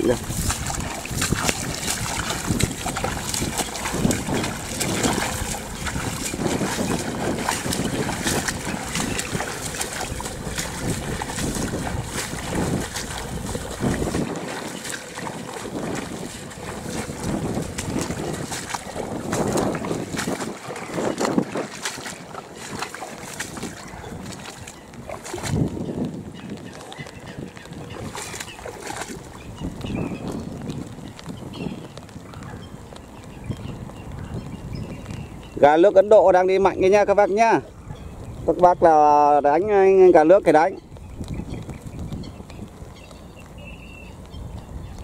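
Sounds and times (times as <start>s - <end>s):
footsteps sloshing through water: 0.0s - 45.0s
wind buffeting microphone: 0.0s - 45.0s.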